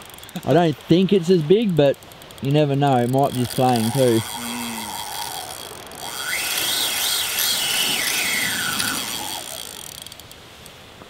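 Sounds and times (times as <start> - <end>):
fishing reel whining: 0.0 - 10.8
steady hiss: 0.0 - 11.0.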